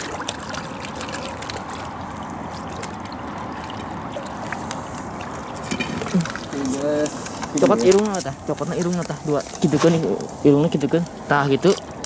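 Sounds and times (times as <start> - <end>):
seawater washing among rocks: 0.0 - 12.0.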